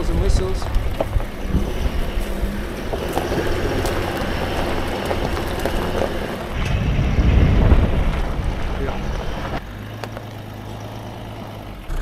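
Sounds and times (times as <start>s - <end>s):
off-road vehicle engine: 0.0s - 12.0s.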